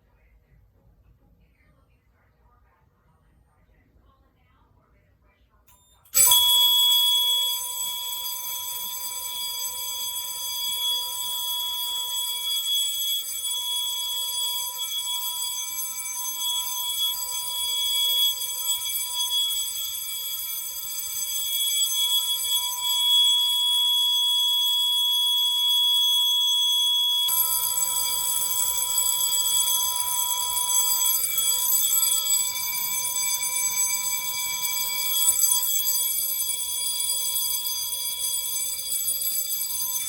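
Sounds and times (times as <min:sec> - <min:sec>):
electronic fire alarm tone: 0:06.1 - 0:40.0.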